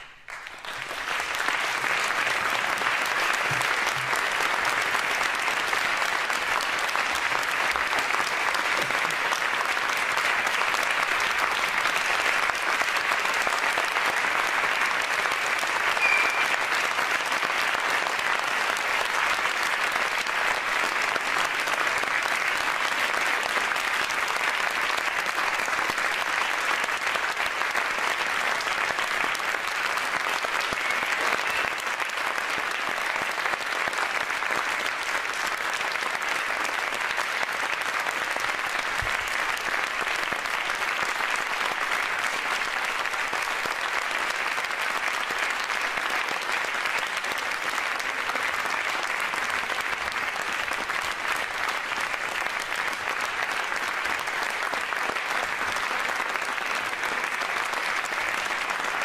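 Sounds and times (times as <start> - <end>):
crowd applauding: 0.0 - 59.0.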